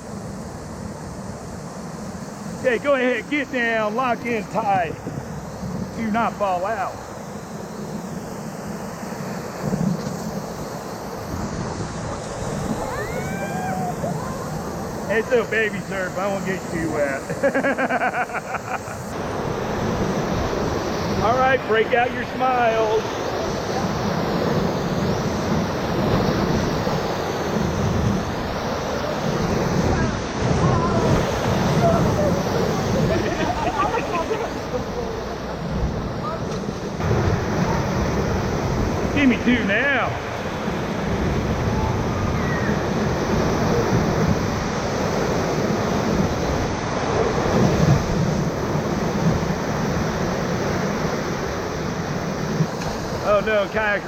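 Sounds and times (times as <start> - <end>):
whitewater rushing: 9.2 - 54.0.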